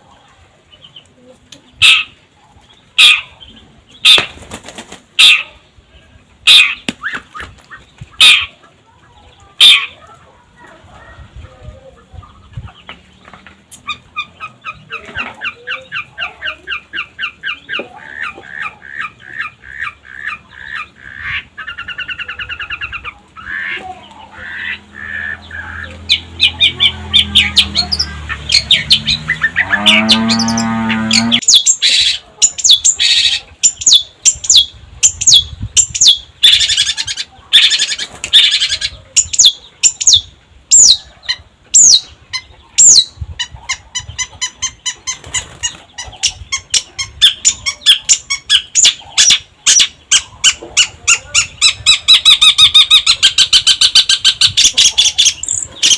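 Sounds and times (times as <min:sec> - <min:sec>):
bird harsh calls and chattering: 0:00.0 - 0:55.9.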